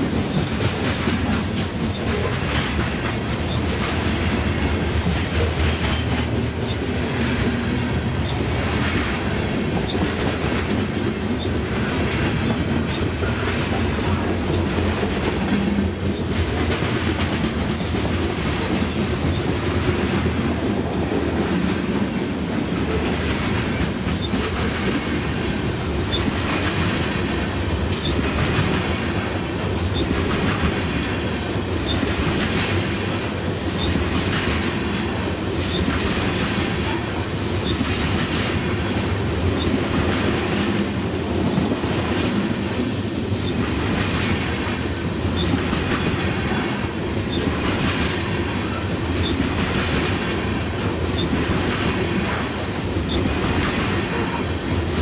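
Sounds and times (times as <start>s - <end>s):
steel wheels rumbling on rail: 0.0s - 55.0s
wheels clacking over rail joints: 0.0s - 55.0s.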